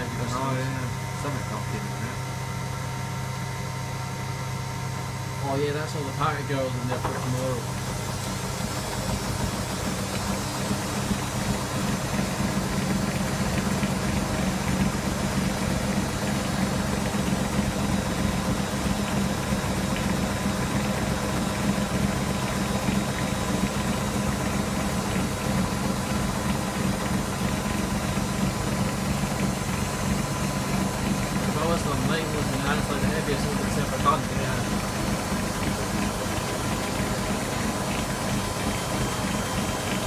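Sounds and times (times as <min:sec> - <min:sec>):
washing machine humming and rumbling: 0:00.0 - 0:40.0.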